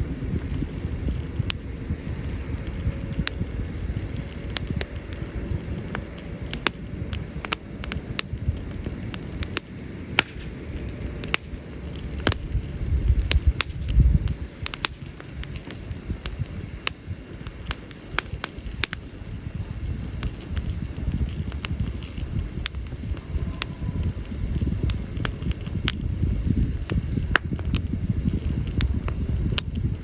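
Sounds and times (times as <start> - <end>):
campfire crackling and popping: 0.0 - 30.0
fire low rumble: 0.0 - 30.0.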